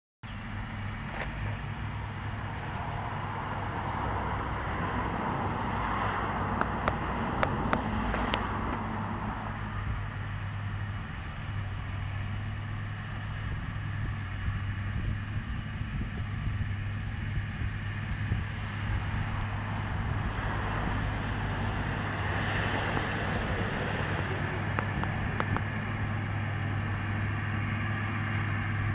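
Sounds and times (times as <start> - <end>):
tractor engine hum: 0.2 - 28.9.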